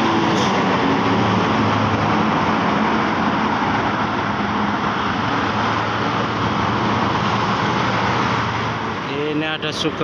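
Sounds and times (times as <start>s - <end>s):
bus engine running: 0.0s - 10.0s
passing cars: 0.0s - 10.0s.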